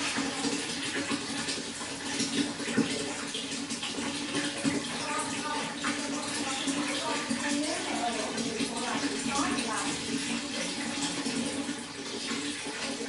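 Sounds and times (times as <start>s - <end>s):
running water splashing: 0.0s - 13.0s.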